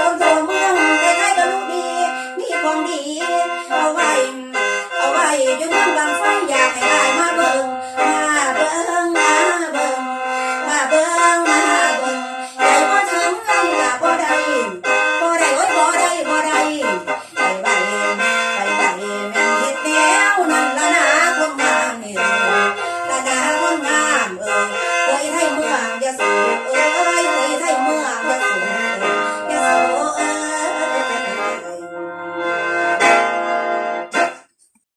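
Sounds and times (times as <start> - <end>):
mouth organ playing chords: 0.0 - 34.5.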